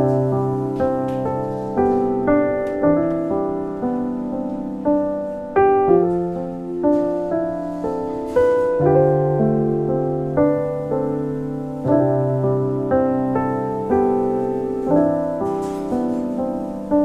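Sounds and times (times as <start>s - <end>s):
slow solo piano: 0.0s - 17.0s.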